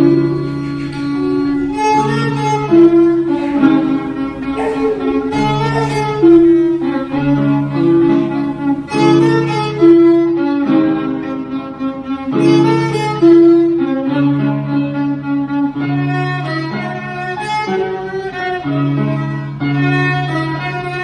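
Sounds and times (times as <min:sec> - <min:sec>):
bowed strings melody: 0:00.0 - 0:17.2.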